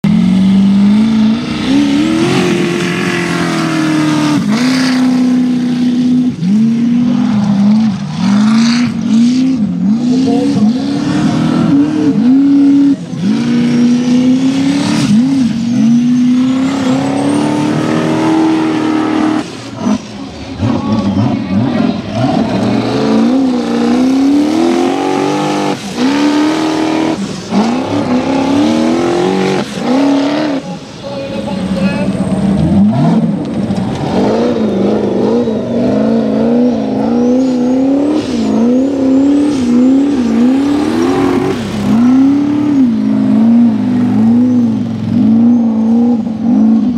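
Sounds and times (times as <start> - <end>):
engine revving hard: 0.0 - 30.8, 32.6 - 46.9.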